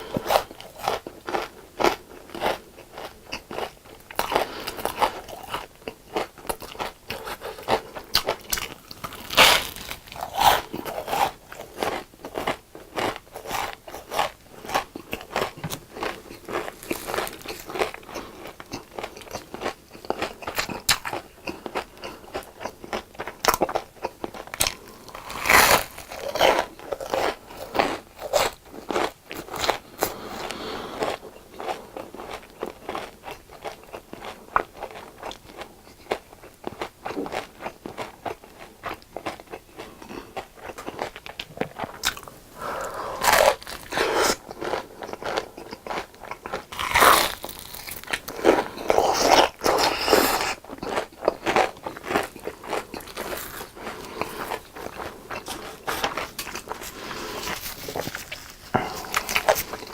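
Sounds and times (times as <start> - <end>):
crunchy fried food chewing: 0.0 - 59.9.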